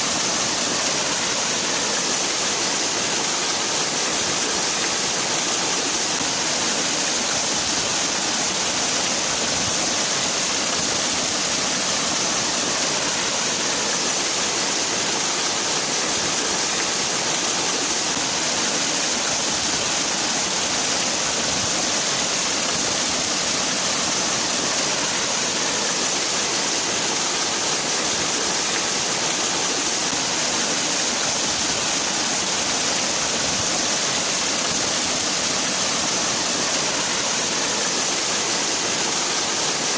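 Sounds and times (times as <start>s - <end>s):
waterfall splashing: 0.0s - 39.9s.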